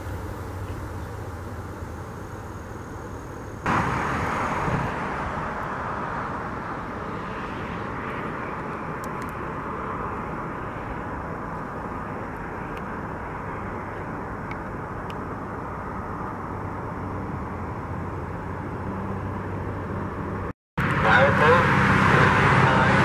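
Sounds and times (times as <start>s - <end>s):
approaching vehicle engine: 0.0s - 23.0s
highway traffic hum: 0.0s - 23.0s.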